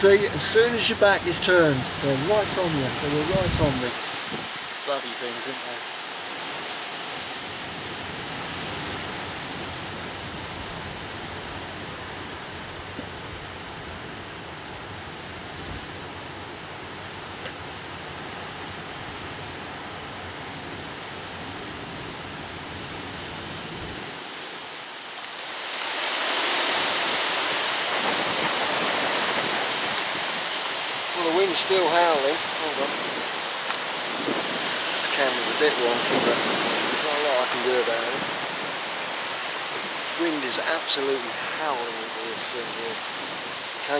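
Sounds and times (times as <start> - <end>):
strong wind blowing: 0.0 - 4.9, 6.2 - 24.6, 25.5 - 43.9.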